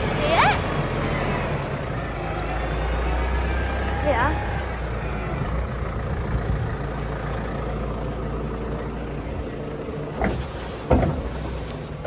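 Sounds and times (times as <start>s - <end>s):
hydraulics raising trailer: 0.0s - 12.0s
tractor engine running: 0.0s - 12.0s.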